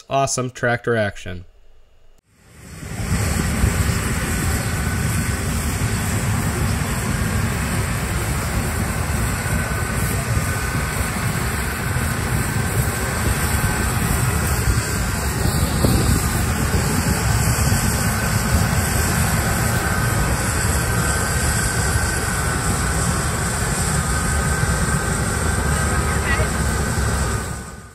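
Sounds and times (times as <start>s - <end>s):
harvest machinery engine drone: 2.3s - 27.9s.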